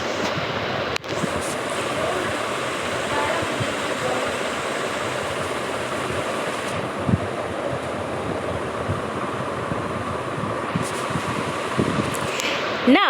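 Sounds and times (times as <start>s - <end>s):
loud rushing hiss: 0.0s - 13.0s.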